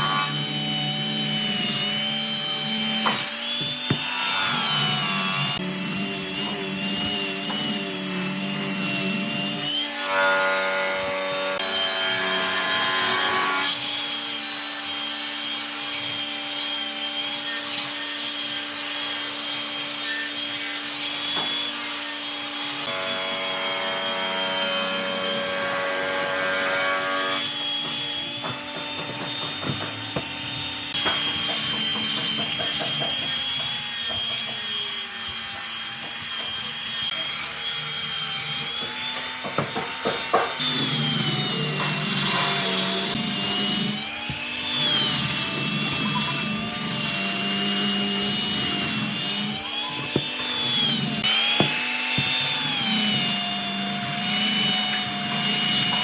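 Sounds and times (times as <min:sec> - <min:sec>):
power tools cutting wood: 0:00.0 - 0:56.0.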